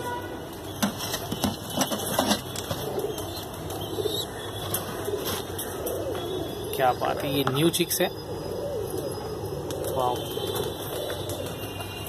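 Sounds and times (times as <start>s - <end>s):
pigeons cooing softly: 0.7s - 12.0s.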